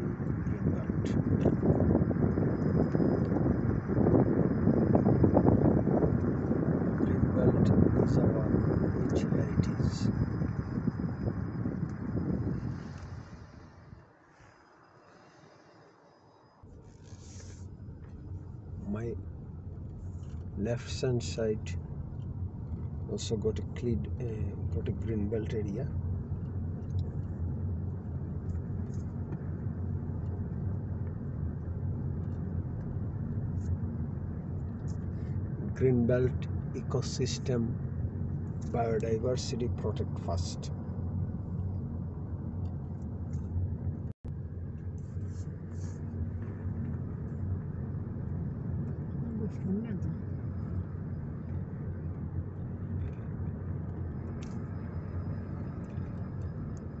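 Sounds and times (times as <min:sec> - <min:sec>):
car engine rumble: 0:00.0 - 0:57.0
tyres on road: 0:00.0 - 0:57.0.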